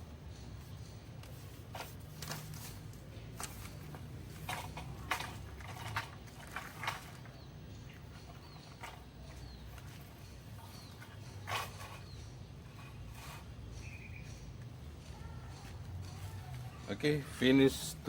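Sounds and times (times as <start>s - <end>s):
wire handling clicks and rustles: 0.4s - 16.9s.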